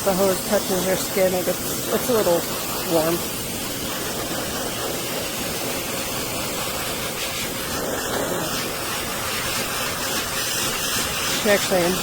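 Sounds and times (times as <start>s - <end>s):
hair dryer blowing air: 0.0s - 12.0s.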